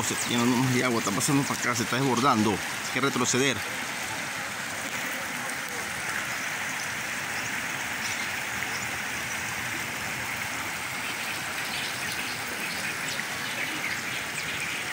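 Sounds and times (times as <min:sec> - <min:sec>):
floodwater rushing: 0:00.0 - 0:14.9.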